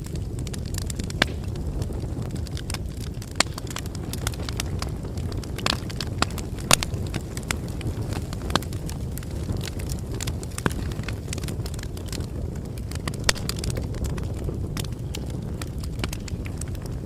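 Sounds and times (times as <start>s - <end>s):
bonfire flames rumbling: 0.0s - 17.0s
fire crackling and popping: 0.0s - 17.0s.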